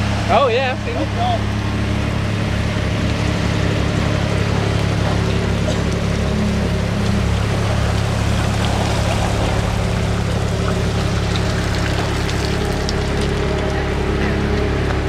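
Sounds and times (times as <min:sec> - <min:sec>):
boat engine idling: 0:00.0 - 0:15.0
water noise: 0:00.0 - 0:15.0.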